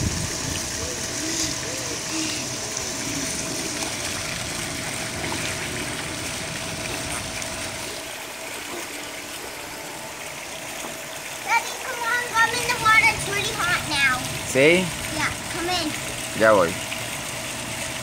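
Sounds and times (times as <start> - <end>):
faint steady hum: 0.0 - 18.0
water splashing from waterfall: 0.0 - 18.0.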